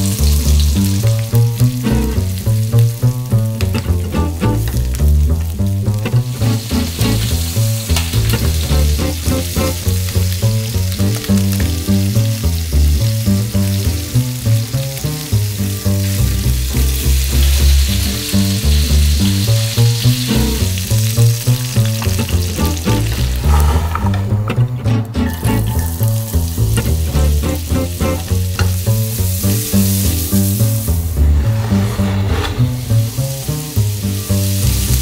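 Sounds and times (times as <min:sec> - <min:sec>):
chicken sizzling in a frying pan: 0:00.0 - 0:24.0, 0:25.2 - 0:31.1, 0:32.8 - 0:35.0
background music with bass: 0:00.0 - 0:35.0.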